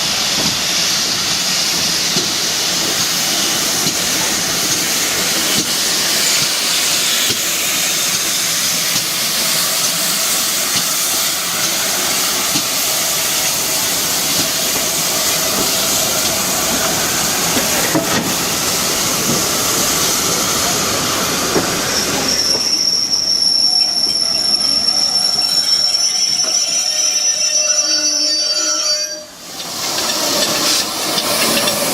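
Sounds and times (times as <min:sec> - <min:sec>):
steam train rushing and hissing: 0:00.0 - 0:31.9
wheels squealing on rails: 0:00.0 - 0:31.9.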